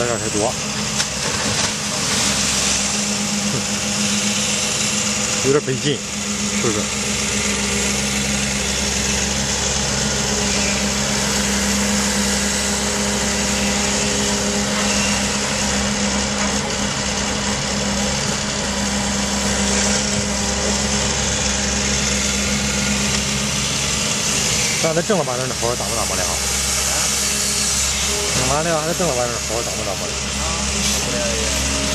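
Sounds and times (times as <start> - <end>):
excavator diesel engine humming: 0.0 - 31.9.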